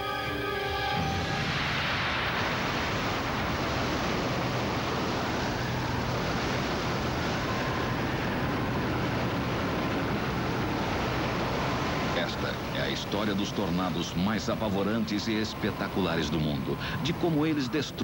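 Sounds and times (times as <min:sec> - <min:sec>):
roaring tornado wind: 0:01.0 - 0:18.0.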